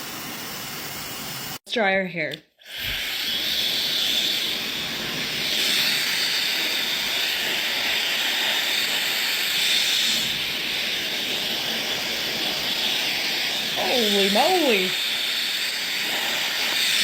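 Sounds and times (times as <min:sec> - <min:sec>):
hair dryer blowing air: 0:00.0 - 0:01.6, 0:02.6 - 0:17.0.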